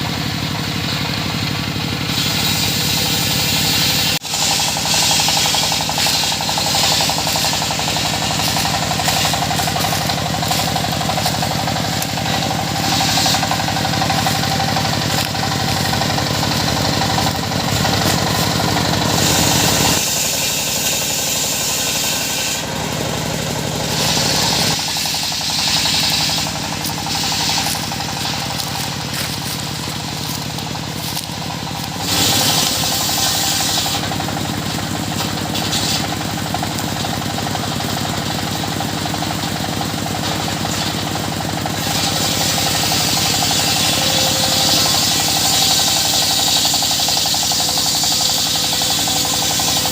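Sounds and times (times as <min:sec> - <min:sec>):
circular saw running: 0:00.0 - 0:49.9
saw blade cutting wood: 0:00.0 - 0:49.9.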